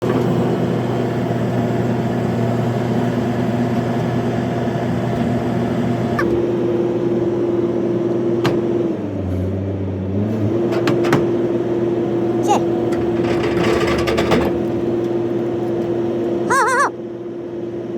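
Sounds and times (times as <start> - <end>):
heavy machinery droning: 0.0 - 17.9.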